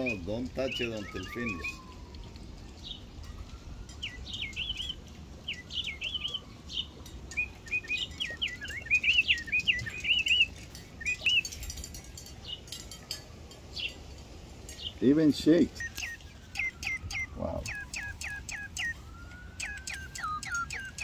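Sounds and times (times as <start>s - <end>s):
toy songbird chirping: 0.0s - 1.9s, 2.8s - 12.9s, 14.8s - 21.0s.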